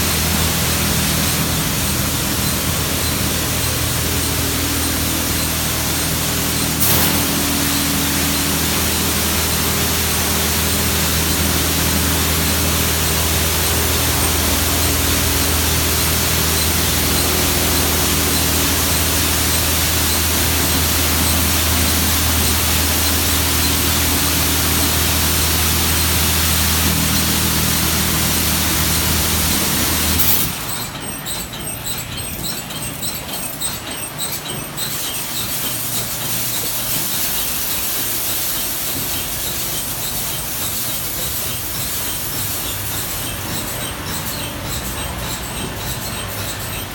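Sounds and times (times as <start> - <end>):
car wash water rushing: 0.0 - 30.8, 34.9 - 46.9.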